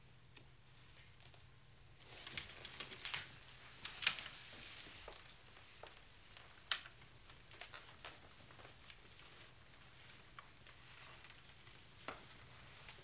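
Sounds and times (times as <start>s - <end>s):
small clicks taps and rustles: 2.1s - 13.0s.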